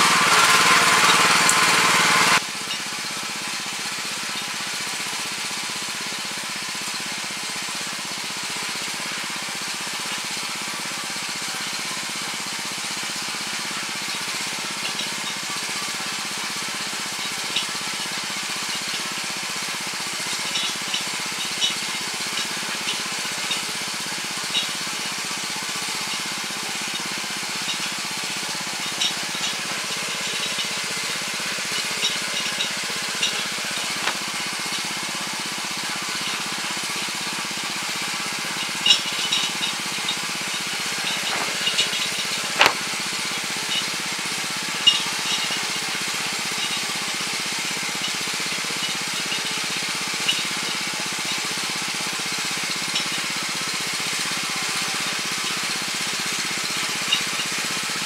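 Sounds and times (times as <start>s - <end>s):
tiller engine running: 0.0s - 58.0s
tines churning soil: 0.0s - 58.0s.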